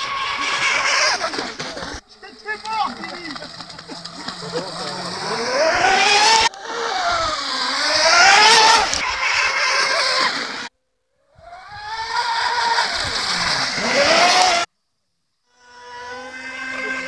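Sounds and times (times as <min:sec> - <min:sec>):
electric motors whining: 0:00.0 - 0:10.7, 0:11.3 - 0:14.7, 0:15.5 - 0:17.0.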